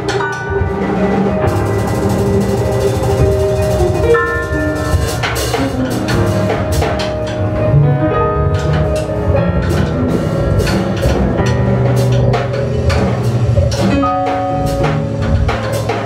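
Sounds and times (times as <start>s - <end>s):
busy drum kit: 0.0s - 16.0s.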